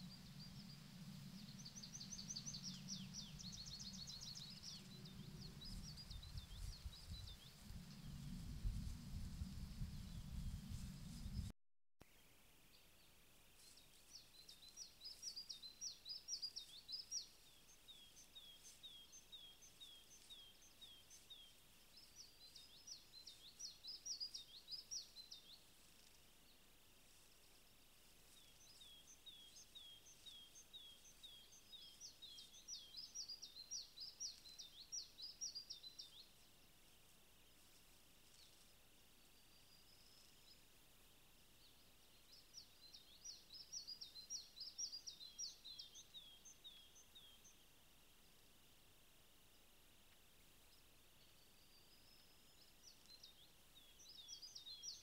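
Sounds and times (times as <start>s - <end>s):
faint steady hiss: 0.0s - 55.0s
songbird singing: 0.0s - 55.0s.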